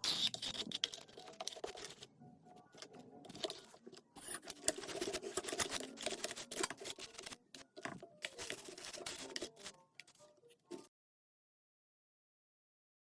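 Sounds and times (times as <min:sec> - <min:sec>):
handling scratching and rubbing: 0:00.0 - 0:10.9.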